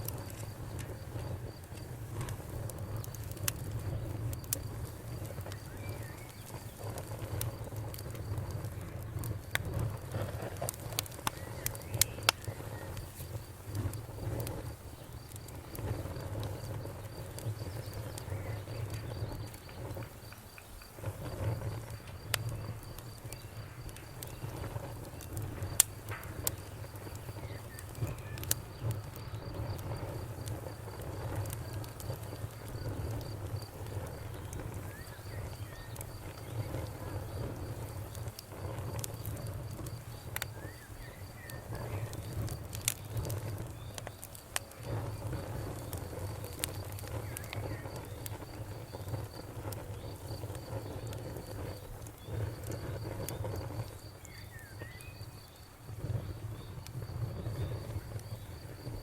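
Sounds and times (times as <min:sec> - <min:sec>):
bonfire crackling and popping: 0:00.0 - 0:59.0
crickets chirping: 0:00.0 - 0:59.0.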